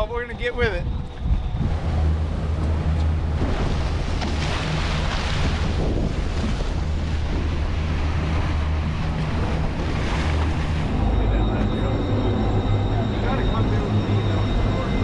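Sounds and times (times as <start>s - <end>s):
wind buffeting microphone: 0.0s - 13.2s
outboard motors droning: 0.0s - 15.0s
water rushing: 0.0s - 15.0s.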